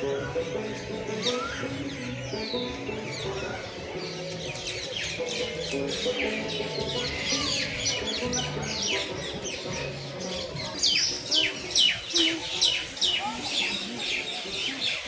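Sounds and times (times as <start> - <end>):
background music: 0.0 - 15.0
small birds chirping: 0.0 - 15.0.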